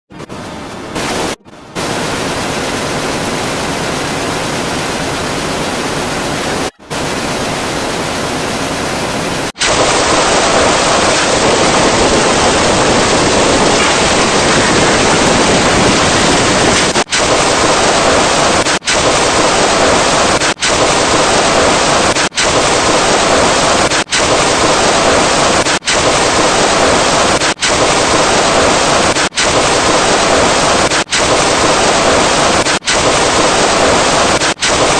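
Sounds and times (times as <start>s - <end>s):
loud static noise: 0.1s - 34.9s.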